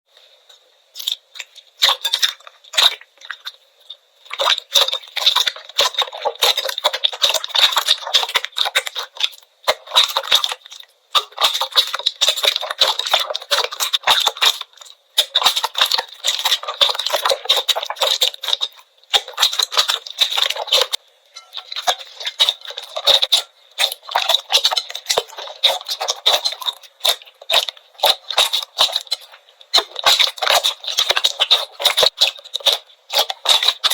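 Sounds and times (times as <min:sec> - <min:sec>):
slime crackling and popping: 0:01.0 - 0:21.0, 0:21.6 - 0:33.9.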